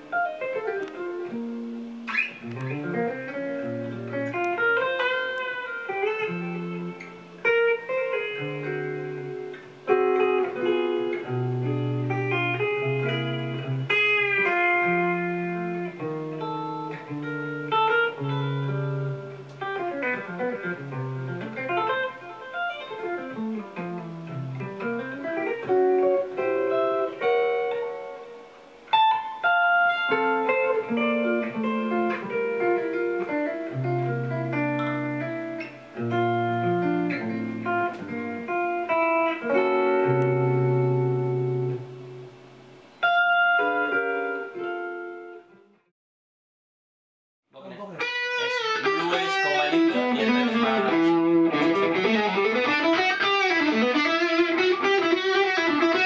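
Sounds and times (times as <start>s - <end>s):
electric guitar lead line: 0.0s - 45.9s, 47.8s - 56.0s.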